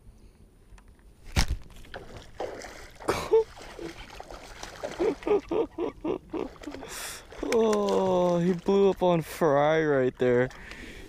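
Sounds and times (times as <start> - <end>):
water splashing: 1.4 - 11.0.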